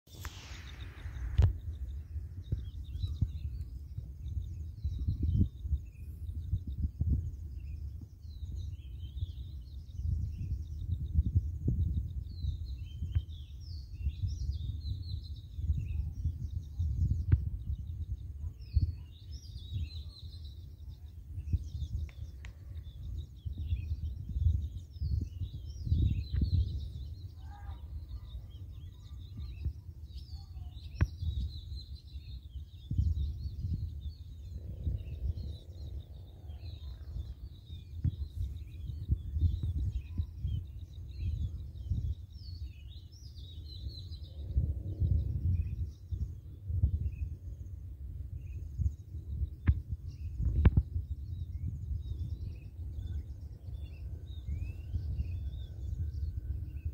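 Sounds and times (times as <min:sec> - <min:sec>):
small birds chirping: 0:00.0 - 0:56.9
wind on microphone: 0:00.0 - 0:56.9.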